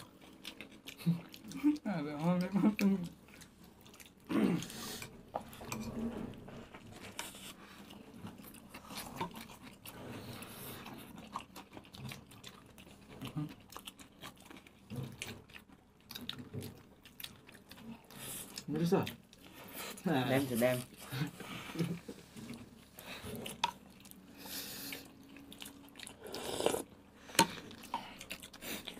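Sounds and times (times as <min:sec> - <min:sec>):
people chewing burgers: 0:00.0 - 0:28.9.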